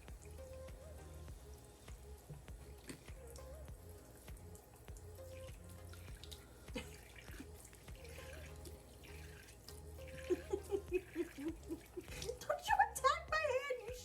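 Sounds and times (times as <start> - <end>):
faucet water running into sink: 0.0 - 14.0.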